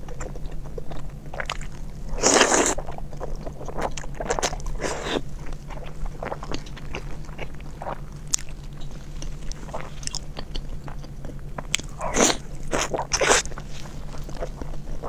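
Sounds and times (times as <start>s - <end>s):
chewing mouth sounds: 0.0s - 15.0s.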